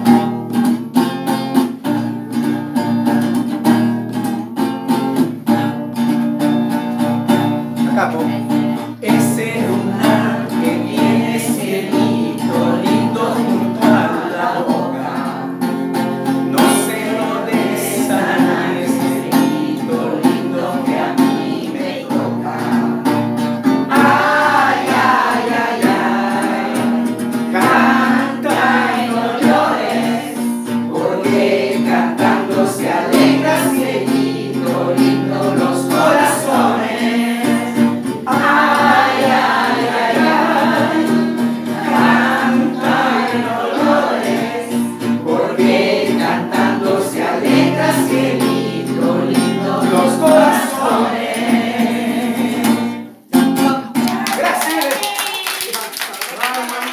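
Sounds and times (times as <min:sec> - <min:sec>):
classical acoustic guitar: 0:00.0 - 0:54.4
group of people singing: 0:08.4 - 0:54.0.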